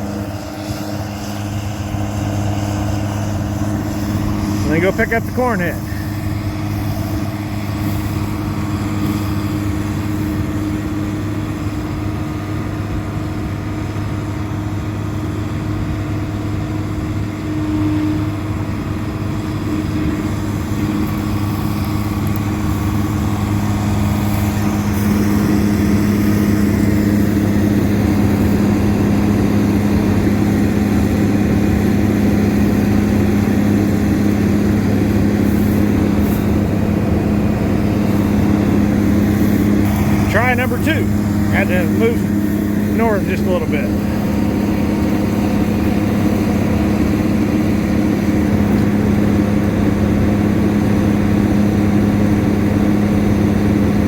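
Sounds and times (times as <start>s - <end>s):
combine harvester diesel engine running: 0.0s - 54.0s.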